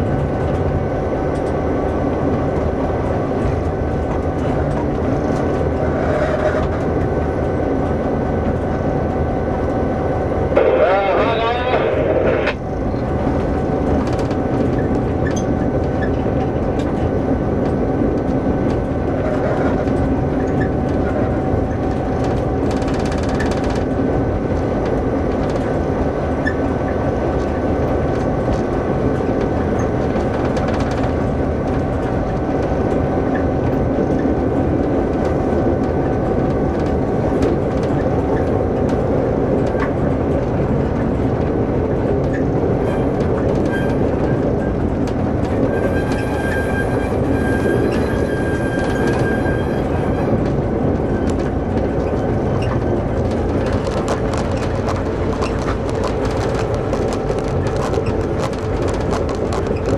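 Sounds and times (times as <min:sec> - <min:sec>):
diesel locomotive engine drone: 0:00.0 - 0:59.9
locomotive whine: 0:00.0 - 0:59.9.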